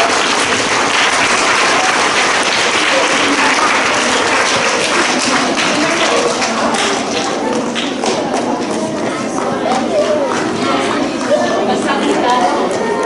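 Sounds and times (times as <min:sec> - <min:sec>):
children applauding: 0:00.0 - 0:11.4
voices: 0:00.0 - 0:13.0.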